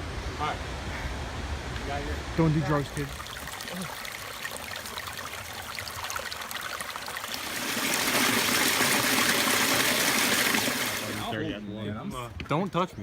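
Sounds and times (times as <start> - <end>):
creek water running: 0.3 - 11.4.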